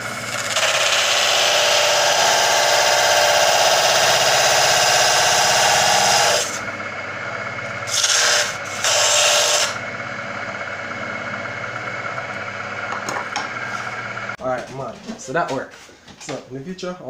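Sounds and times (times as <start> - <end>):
sander motor humming: 0.0 - 14.4
wood sanding on disc sander: 0.2 - 6.8, 7.6 - 15.9.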